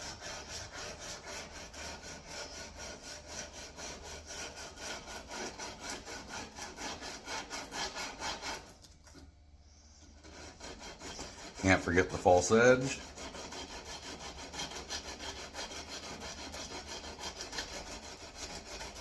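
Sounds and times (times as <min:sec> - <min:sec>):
sandpaper rubbing on steel blade: 0:00.0 - 0:08.8, 0:10.0 - 0:19.0.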